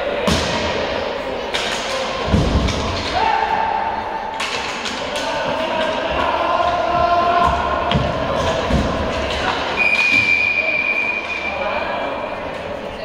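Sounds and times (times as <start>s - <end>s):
sports hall background din: 0.0s - 13.0s.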